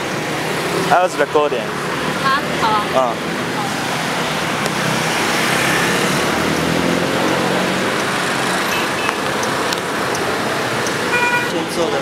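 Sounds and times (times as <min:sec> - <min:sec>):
car and scooter engines: 0:00.0 - 0:12.0
road noise: 0:00.0 - 0:12.0.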